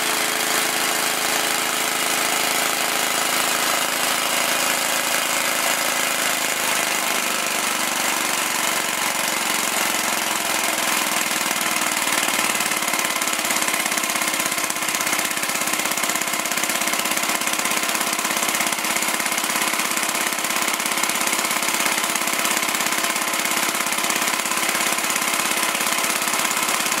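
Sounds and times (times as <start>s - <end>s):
small engine rattling: 0.0s - 27.0s.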